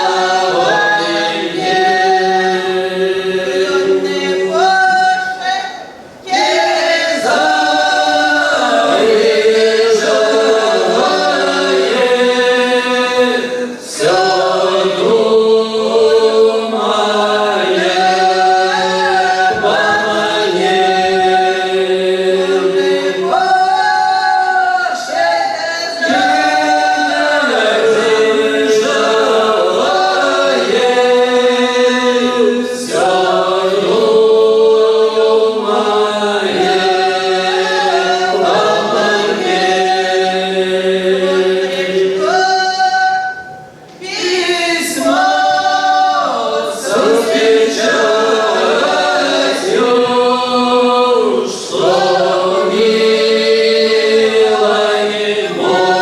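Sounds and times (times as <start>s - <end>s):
group singing a cappella: 0.0s - 56.0s.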